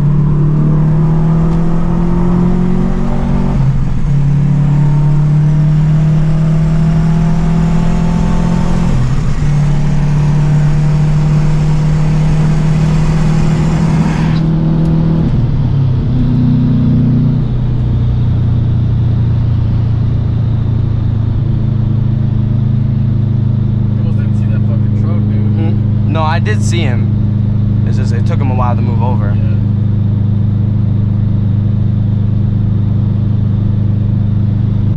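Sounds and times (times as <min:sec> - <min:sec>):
car engine driving: 0:00.0 - 0:34.9.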